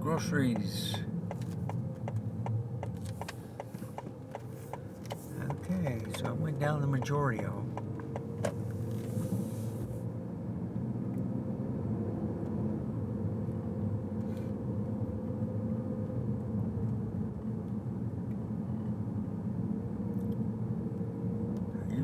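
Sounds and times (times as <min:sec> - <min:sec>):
car engine: 0:00.0 - 0:22.0
road noise: 0:00.0 - 0:22.0.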